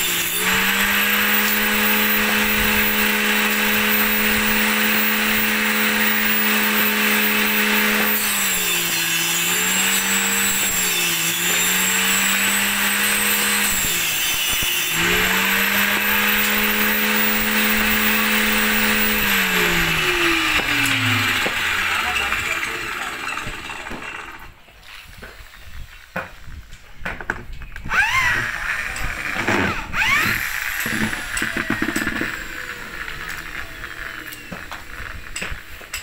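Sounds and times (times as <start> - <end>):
saw cutting wood: 0.0 - 24.6, 27.8 - 36.0
table saw running: 0.0 - 24.6, 27.8 - 35.9.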